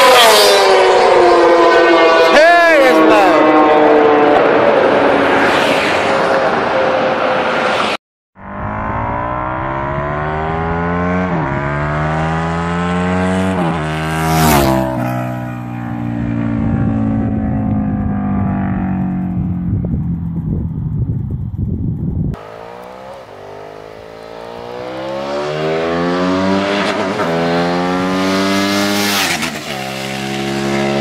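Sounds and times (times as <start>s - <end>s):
motorcycle engine accelerating: 0.0s - 7.8s, 8.4s - 31.0s.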